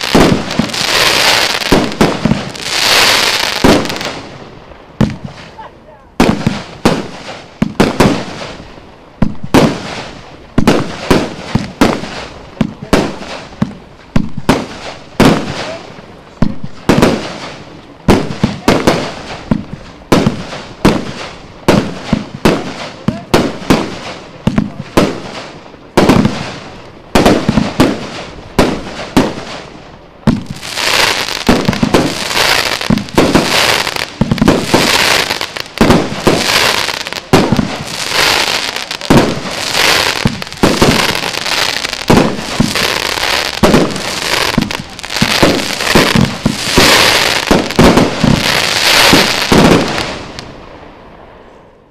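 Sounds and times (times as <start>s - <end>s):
fireworks shots banging: 0.0s - 4.4s, 5.0s - 8.6s, 9.2s - 15.8s, 16.4s - 50.5s
dense fireworks crackle: 0.0s - 51.9s.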